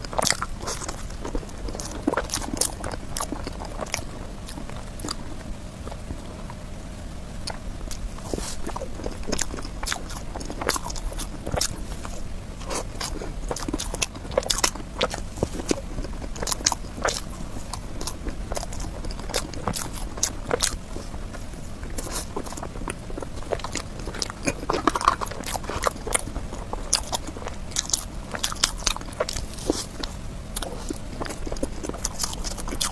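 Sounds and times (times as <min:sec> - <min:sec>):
person chewing with mouth clicks: 0:00.0 - 0:32.9.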